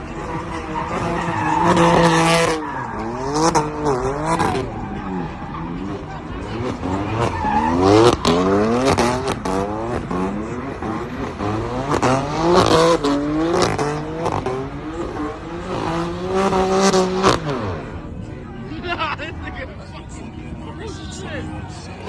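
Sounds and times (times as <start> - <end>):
car engine revving hard: 0.1 - 18.0.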